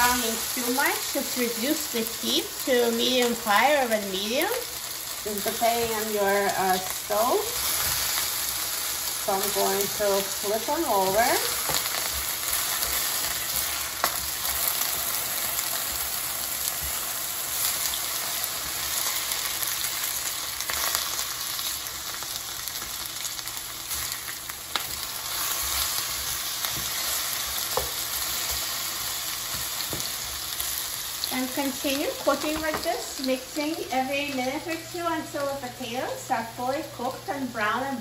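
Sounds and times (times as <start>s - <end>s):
potatoes sizzling in a frying pan: 0.0s - 38.0s.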